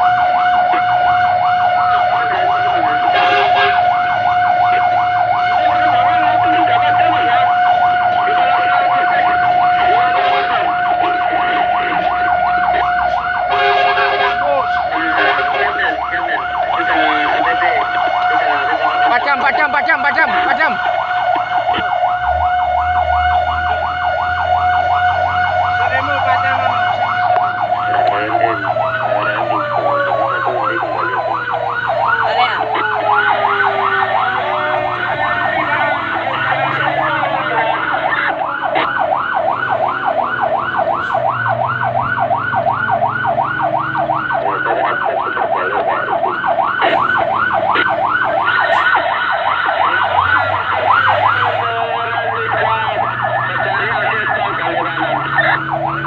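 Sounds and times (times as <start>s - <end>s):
fire truck engine running: 0.0s - 56.0s
siren yelping: 0.0s - 56.0s
steady siren tone winding down: 0.0s - 56.0s.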